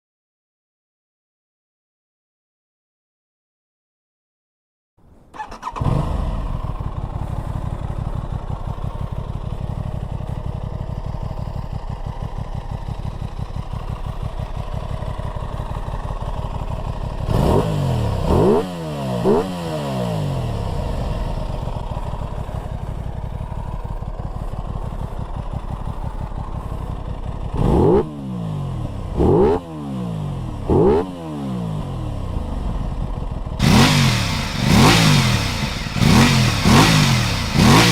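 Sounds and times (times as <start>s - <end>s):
motorcycle engine starting and idling: 5.3s - 37.9s
motorcycle engine revving: 5.4s - 37.9s.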